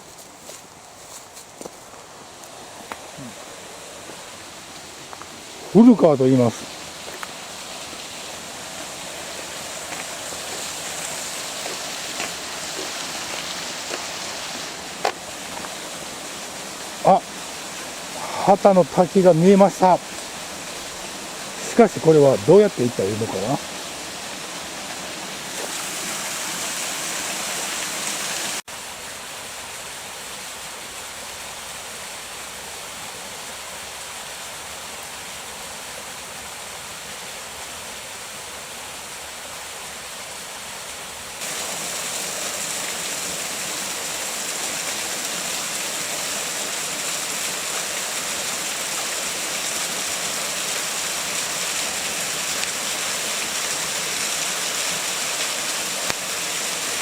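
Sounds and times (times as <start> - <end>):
waterfall rushing: 2.0 - 57.0.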